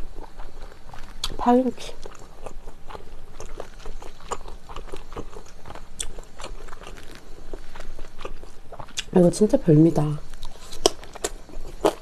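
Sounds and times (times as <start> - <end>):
wet mouth chewing noodles: 0.0 - 9.2, 10.2 - 12.0.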